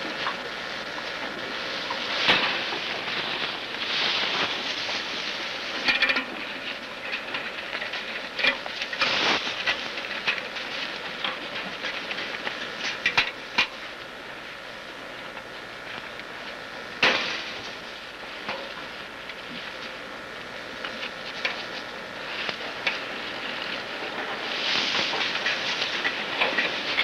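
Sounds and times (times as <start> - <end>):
tape hiss: 0.0 - 27.0.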